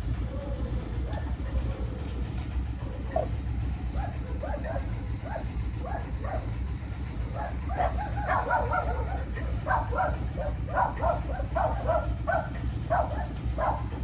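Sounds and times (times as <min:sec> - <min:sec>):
dogs barking and yipping: 0:00.0 - 0:14.0
steady low hum: 0:00.0 - 0:14.0.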